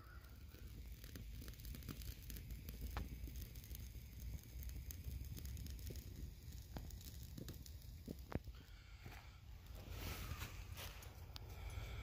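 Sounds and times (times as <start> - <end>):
fire popping: 0.0 - 12.0
wood fire crackling: 0.0 - 12.0.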